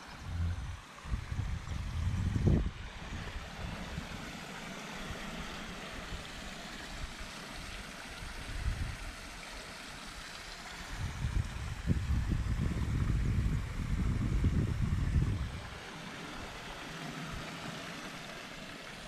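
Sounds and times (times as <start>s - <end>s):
wind rumbling on microphone: 0.0s - 9.4s, 10.2s - 17.7s
steady outdoor hiss: 0.0s - 19.0s.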